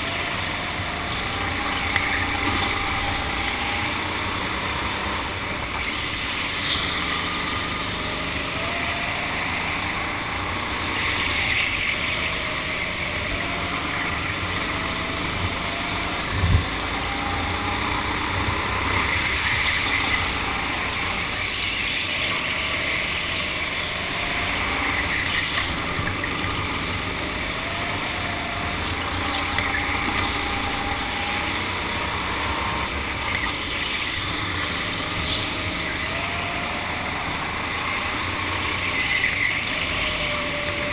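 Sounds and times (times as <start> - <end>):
go-kart motor revving: 0.0 - 40.9.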